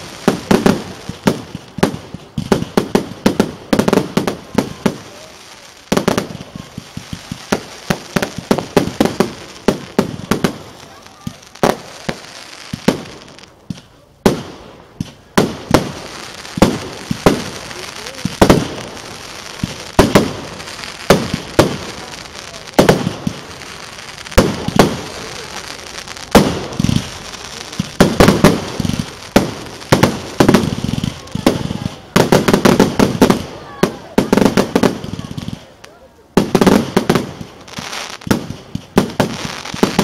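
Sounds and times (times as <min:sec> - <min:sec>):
fireworks bangs with echo: 0:00.0 - 0:40.0.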